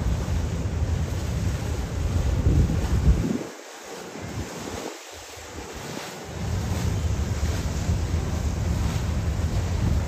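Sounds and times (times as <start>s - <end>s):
rushing water: 0.0s - 10.0s
wind buffeting microphone: 0.0s - 10.0s.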